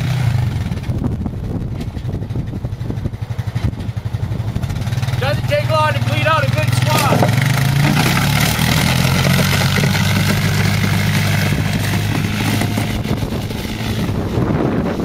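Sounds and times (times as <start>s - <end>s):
atv engine running under load: 0.0s - 15.0s.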